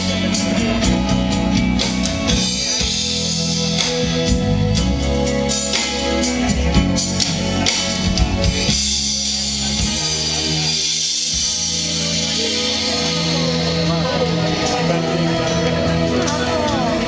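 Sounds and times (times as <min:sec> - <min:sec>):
drum and cymbal hits: 0:00.0 - 0:17.0
live band playing: 0:00.0 - 0:17.0.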